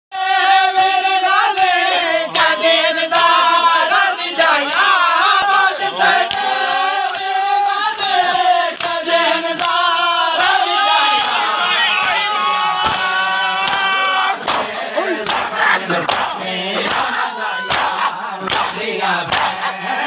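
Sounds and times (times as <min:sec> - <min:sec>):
men chanting a lament in unison: 0:00.1 - 0:20.0.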